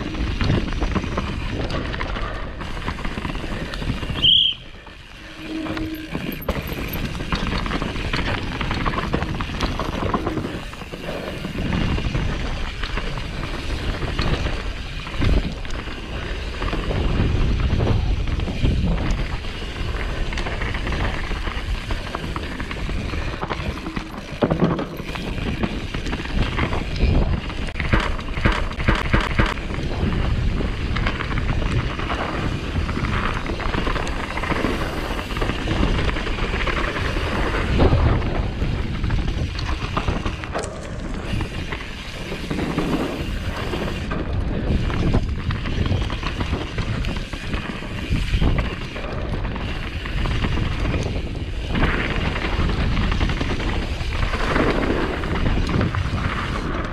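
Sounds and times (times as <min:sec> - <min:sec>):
bike clattering over bumps: 0:00.0 - 0:56.9
tyres and wind rumble: 0:00.0 - 0:56.9.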